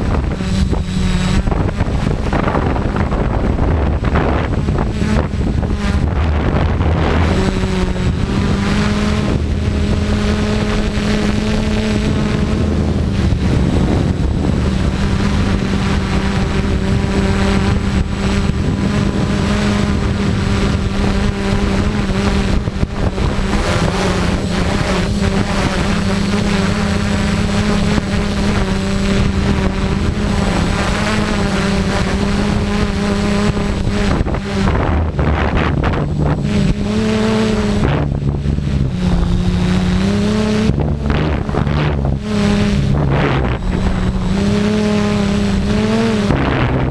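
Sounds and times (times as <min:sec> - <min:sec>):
drone motors humming: 0:00.0 - 0:46.9
wind buffeting microphone: 0:00.0 - 0:46.9.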